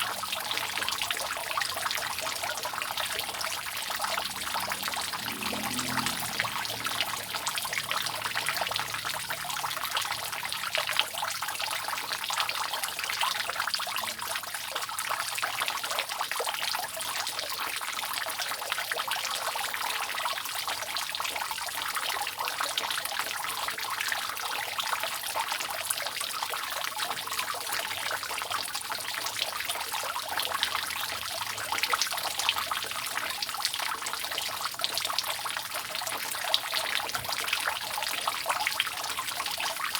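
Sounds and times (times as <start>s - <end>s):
water dripping off a roof: 0.0s - 39.9s.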